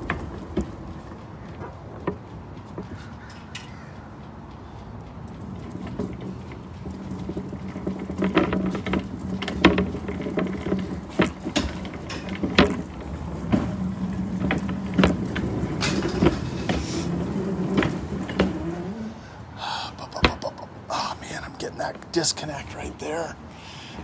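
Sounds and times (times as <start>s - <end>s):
cart rattling over pavement: 0.0s - 24.0s.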